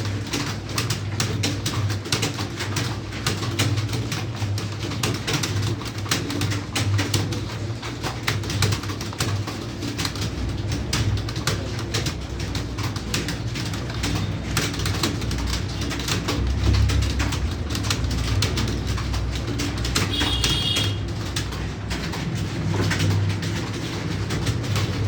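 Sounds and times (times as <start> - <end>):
keyboard typing: 0.0 - 25.0.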